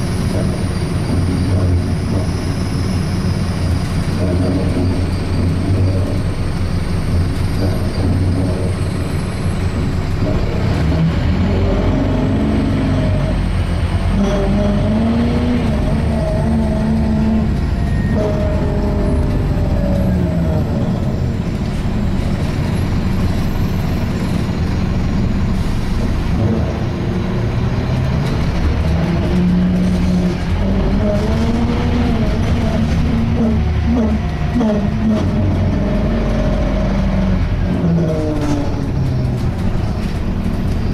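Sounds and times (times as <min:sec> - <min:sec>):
bus engine groaning: 0:00.0 - 0:40.9.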